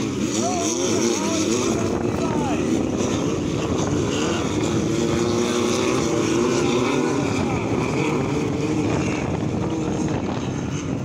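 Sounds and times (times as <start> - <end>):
buggy engines revving: 0.0 - 11.0.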